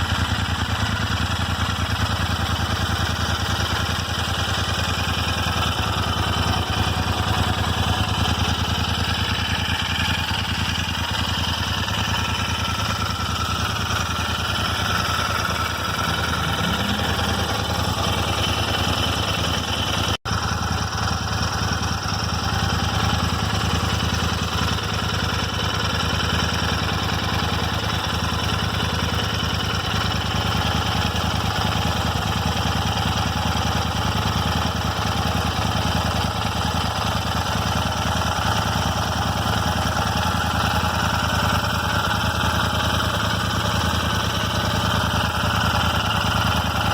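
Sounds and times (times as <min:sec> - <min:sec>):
engine ticking: 0:00.0 - 0:46.9
motorcycle engine idling: 0:00.0 - 0:46.9.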